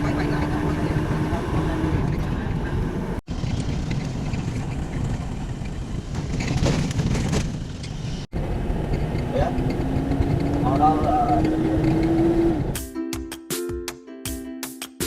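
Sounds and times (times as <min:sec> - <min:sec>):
moving vehicle rumble: 0:00.0 - 0:12.8.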